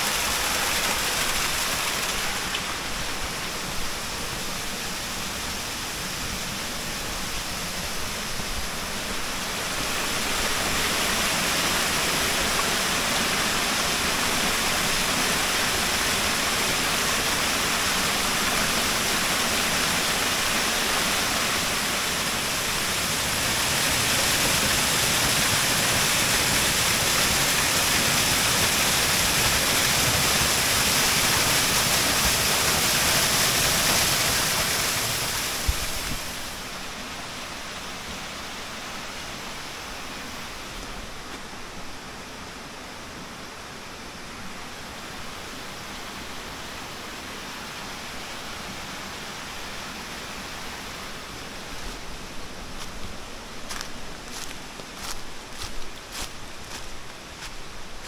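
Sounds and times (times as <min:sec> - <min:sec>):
waterfall rushing: 0:00.0 - 0:53.8.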